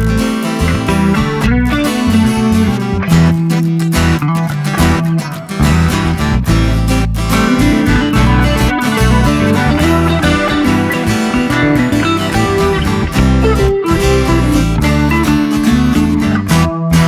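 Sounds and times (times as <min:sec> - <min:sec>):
bass line: 0:00.0 - 0:17.0
strummed guitar music: 0:00.0 - 0:17.0.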